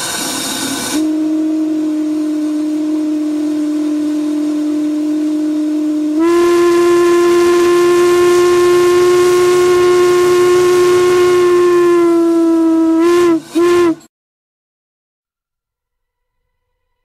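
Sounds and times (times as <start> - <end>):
steam hissing: 0.0 - 14.0
steam whistle blowing: 0.0 - 14.1.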